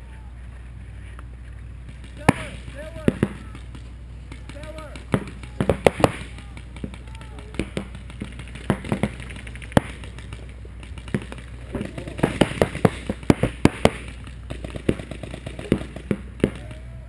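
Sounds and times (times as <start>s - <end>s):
paintball markers firing: 1.8s - 17.0s.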